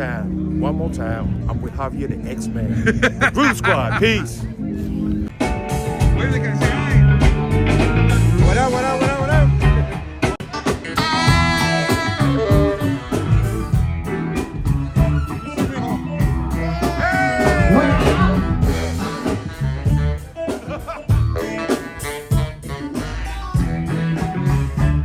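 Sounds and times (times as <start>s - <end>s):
steady bass line: 0.0s - 25.0s
blues band with guitar: 1.2s - 25.0s.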